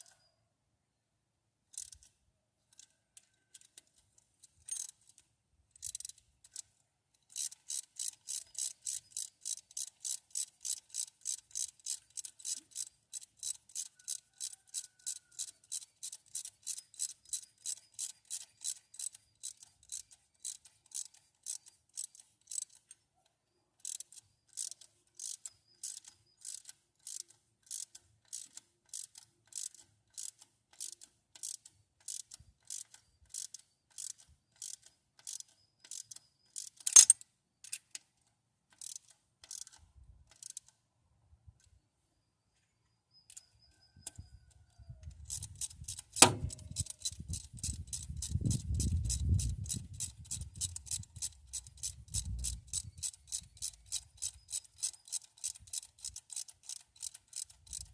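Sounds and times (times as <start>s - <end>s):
ratchet wrench clicking: 1.7s - 2.1s, 3.5s - 5.2s, 5.8s - 22.9s, 23.8s - 37.9s, 38.8s - 40.7s, 45.1s - 57.9s.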